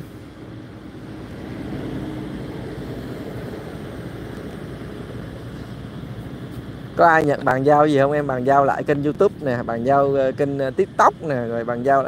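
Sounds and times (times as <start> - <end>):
low rumble of vehicle noise: 0.0 - 12.0.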